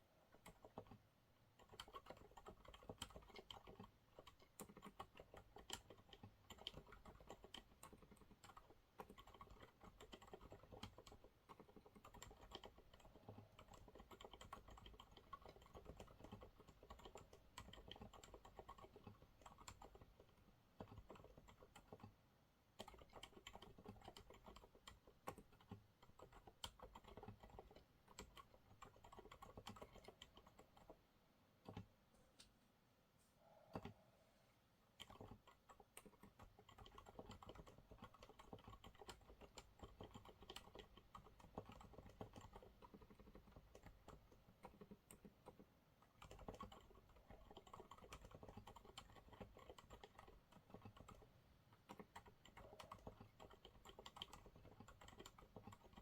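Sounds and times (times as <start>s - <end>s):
quiet mechanical keyboard typing: 0.0s - 32.0s, 33.7s - 34.0s, 34.9s - 56.0s.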